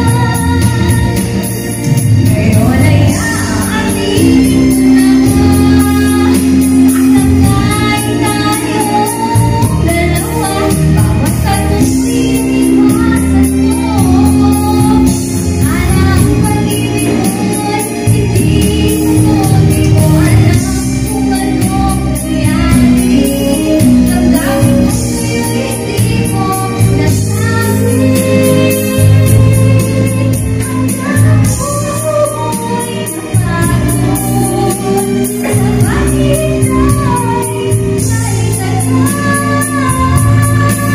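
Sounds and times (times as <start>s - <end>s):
backing music with bass: 0.0s - 40.9s
woman singing into microphone: 0.0s - 40.9s.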